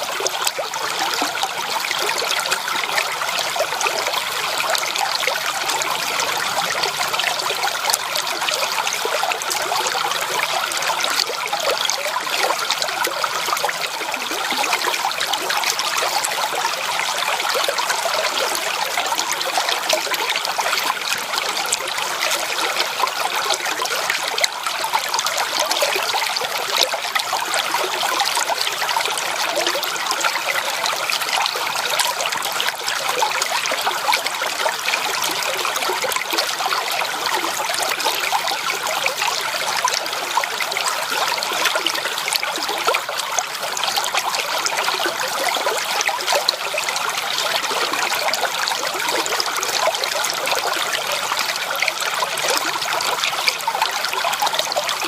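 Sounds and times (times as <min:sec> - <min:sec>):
creek water babbling over stones: 0:00.0 - 0:55.0.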